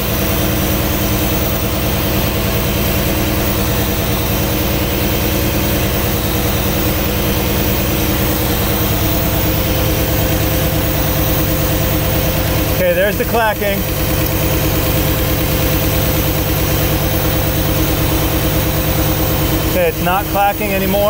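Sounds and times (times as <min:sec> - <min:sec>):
engine idling: 0:00.0 - 0:21.0
valve clacking: 0:00.0 - 0:21.0.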